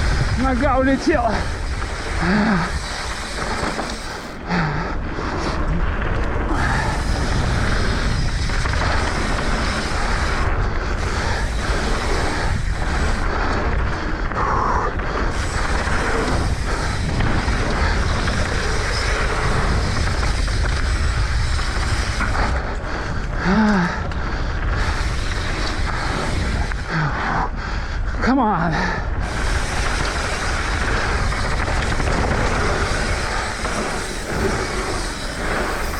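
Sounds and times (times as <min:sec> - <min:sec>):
bike tyres rolling and rattling: 0:00.0 - 0:35.9
wind buffeting microphone: 0:00.0 - 0:35.9.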